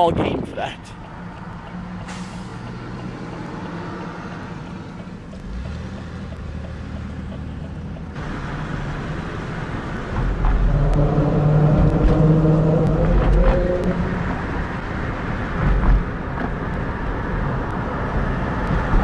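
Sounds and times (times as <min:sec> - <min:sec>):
road and engine noise inside car: 0:00.7 - 0:19.0.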